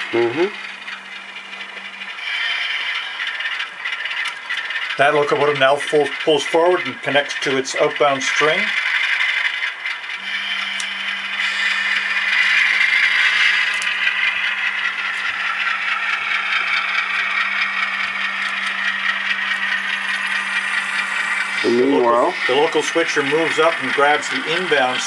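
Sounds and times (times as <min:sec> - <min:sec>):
model train rattling on track: 0:00.0 - 0:25.0
steady low hum: 0:00.0 - 0:25.0.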